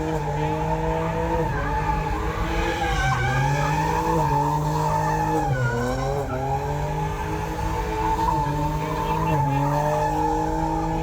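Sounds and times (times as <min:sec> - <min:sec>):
car engine revving high: 0:00.0 - 0:11.0
tires squealing: 0:00.0 - 0:11.0.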